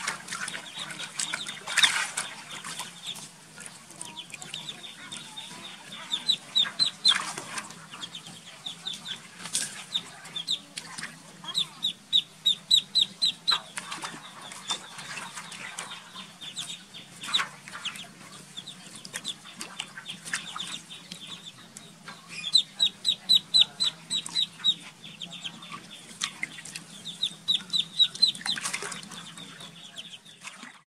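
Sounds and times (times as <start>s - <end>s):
water splashing in a basin: 0.0s - 12.4s, 13.0s - 21.4s, 25.6s - 30.8s
ducklings peeping: 0.0s - 30.8s.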